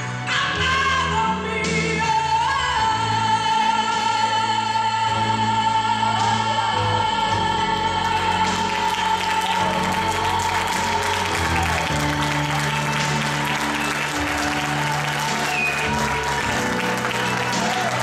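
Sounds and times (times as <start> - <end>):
worship ballad over sound system: 0.0 - 18.0.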